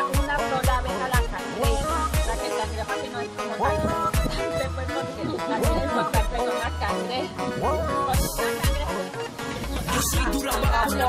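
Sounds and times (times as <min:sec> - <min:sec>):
dance music with steady beat: 0:00.0 - 0:11.0.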